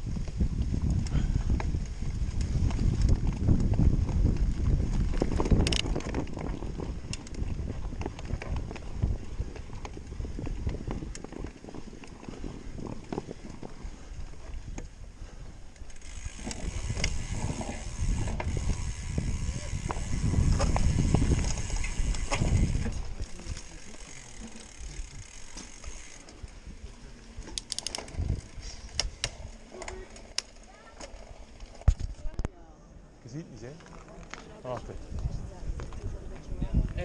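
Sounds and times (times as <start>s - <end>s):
bike tyres rumbling: 0.0s - 37.0s
bike parts rattling: 0.3s - 32.4s.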